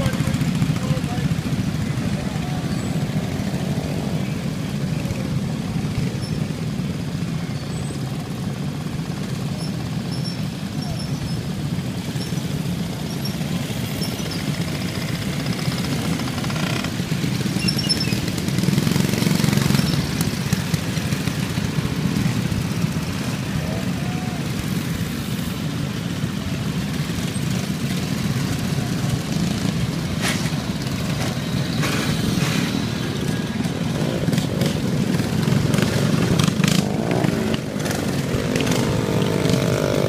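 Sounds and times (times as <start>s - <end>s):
minibike engines puttering past: 0.0s - 40.0s.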